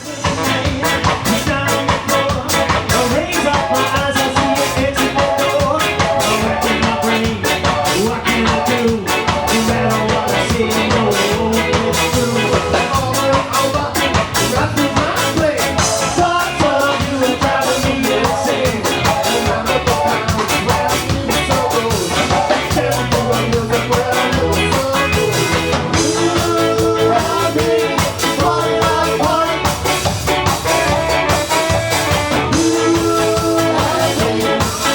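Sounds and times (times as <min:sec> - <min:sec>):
ska band playing live: 0:00.0 - 0:34.9.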